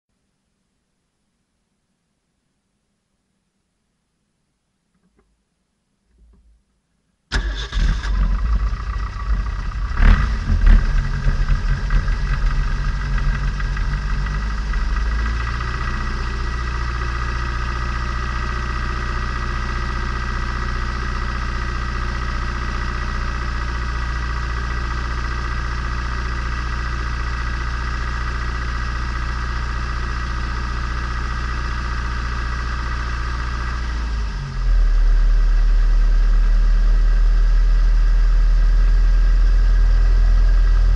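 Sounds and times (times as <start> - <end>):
car engine starting and idling: 7.3 - 40.9.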